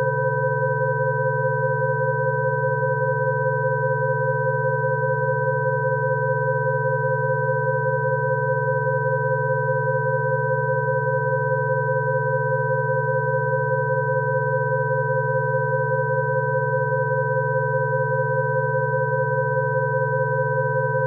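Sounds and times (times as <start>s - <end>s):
low sine tone: 0.0s - 21.0s.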